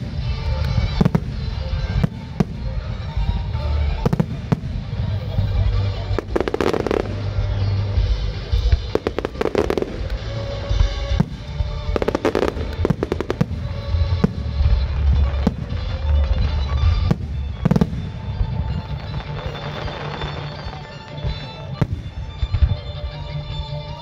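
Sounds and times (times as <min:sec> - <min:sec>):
firework crackling: 0:00.0 - 0:23.9.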